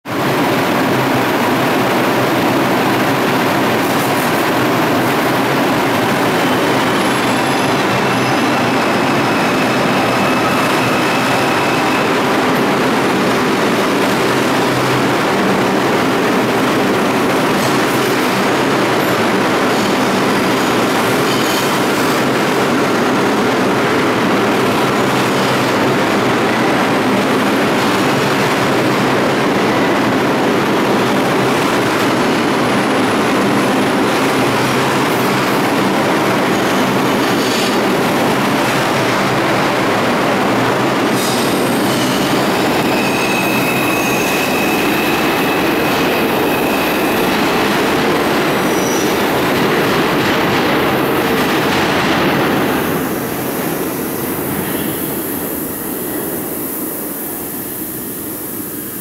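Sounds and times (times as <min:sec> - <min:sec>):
subway train wheels rumbling: 0:00.0 - 0:59.0.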